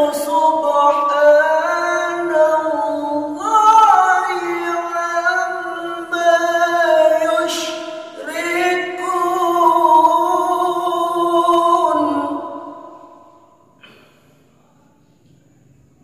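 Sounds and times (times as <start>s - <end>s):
man reciting melodically: 0.0s - 13.4s.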